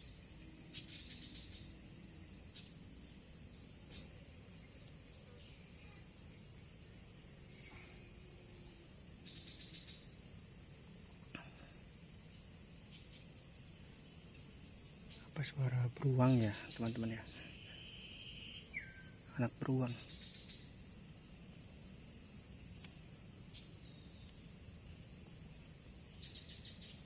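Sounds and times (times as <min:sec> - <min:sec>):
high-pitched insect trilling: 0:00.0 - 0:27.0.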